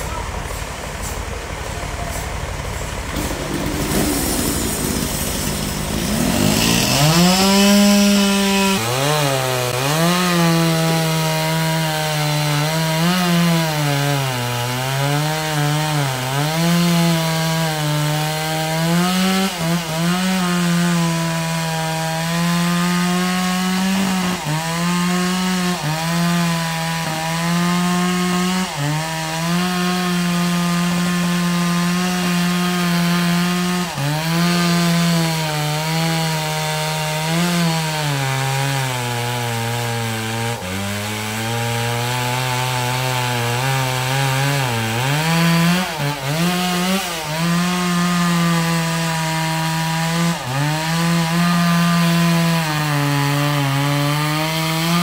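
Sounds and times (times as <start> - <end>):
chainsaw cutting log: 2.3 - 55.0.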